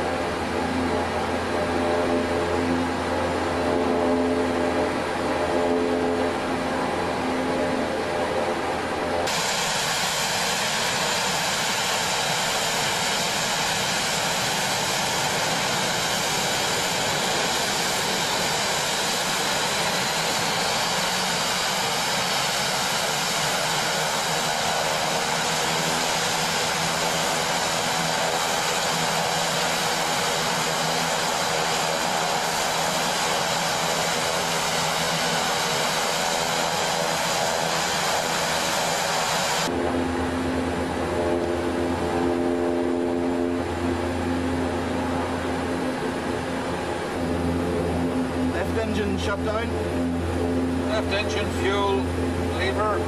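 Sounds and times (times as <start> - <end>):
turboprop engines running: 0.0 - 53.0.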